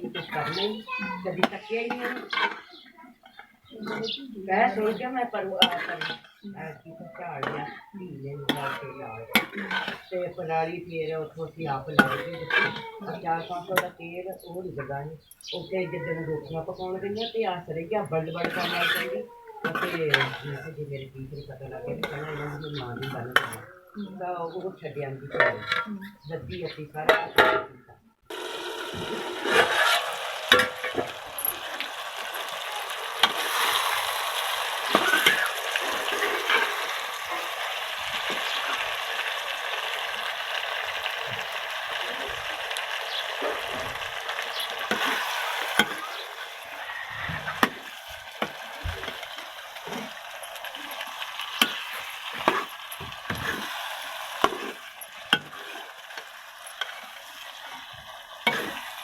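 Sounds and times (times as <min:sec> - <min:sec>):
food sizzling in oil: 0:00.0 - 0:02.9, 0:03.6 - 0:06.4, 0:07.1 - 0:24.3, 0:28.3 - 0:59.0.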